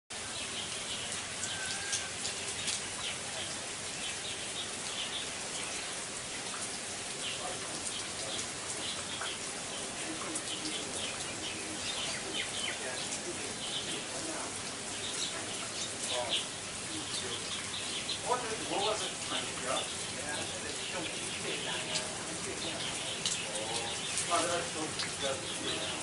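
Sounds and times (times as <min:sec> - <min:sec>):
steady rain falling: 0:00.1 - 0:26.0
drops ticking close by: 0:04.2 - 0:26.0.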